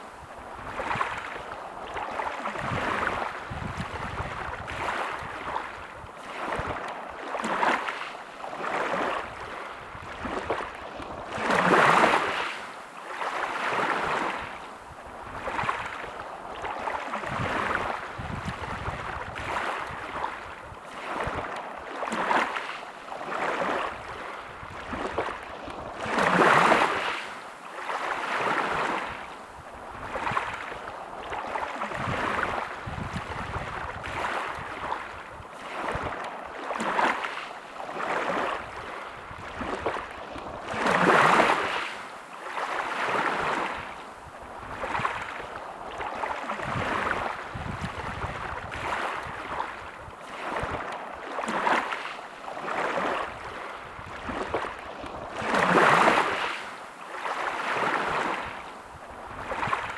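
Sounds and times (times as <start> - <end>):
big waves breaking: 0.0 - 59.9
sea waves washing onto beach: 0.0 - 59.9.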